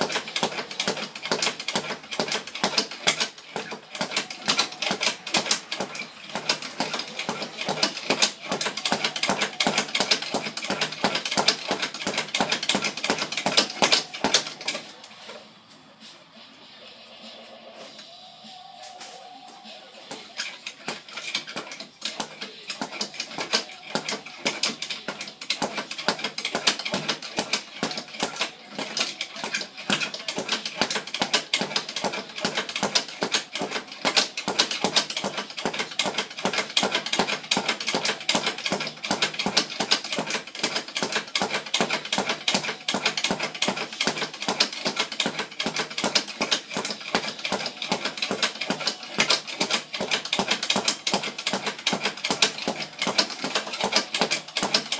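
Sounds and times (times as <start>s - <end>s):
speed bag being punched: 0.0s - 14.9s, 20.1s - 54.9s.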